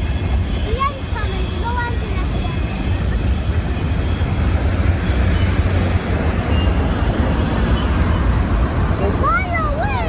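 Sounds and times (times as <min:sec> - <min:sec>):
freight train rolling past: 0:00.0 - 0:10.0.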